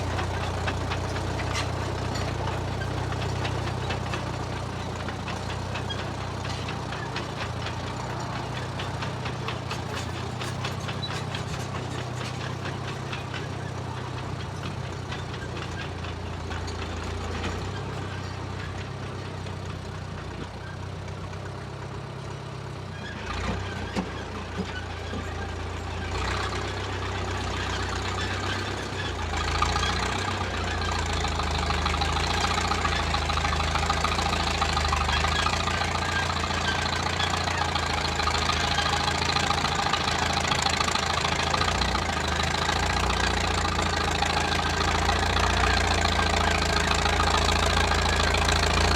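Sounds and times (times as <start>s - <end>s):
bulldozer engine running: 0.0s - 48.9s.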